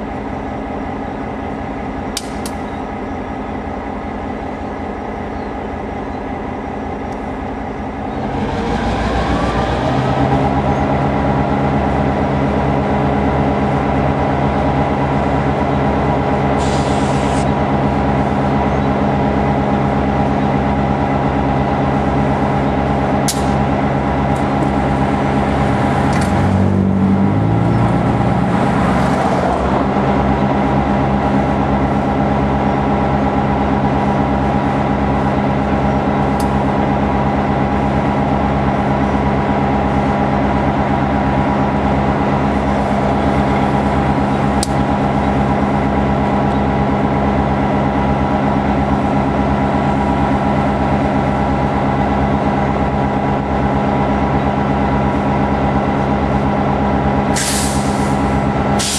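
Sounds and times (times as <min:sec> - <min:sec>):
diesel locomotive engine drone: 0:00.0 - 0:58.9.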